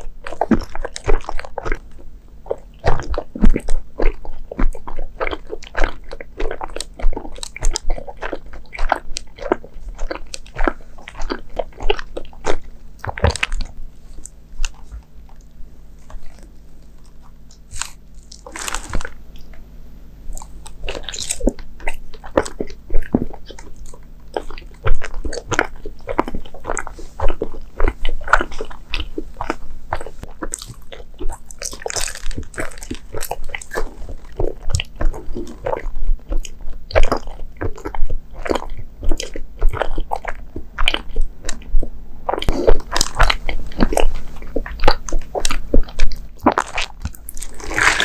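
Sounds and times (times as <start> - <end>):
mouth chewing soft sweets: 0.0 - 48.0.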